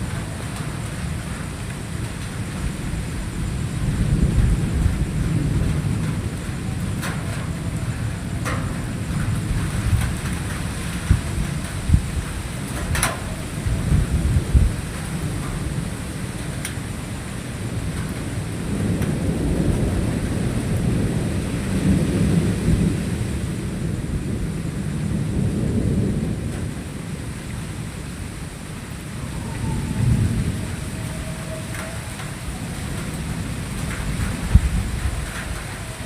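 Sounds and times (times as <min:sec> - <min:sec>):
steady rainfall: 0:00.0 - 0:36.0
thunder rumbling: 0:00.0 - 0:36.0.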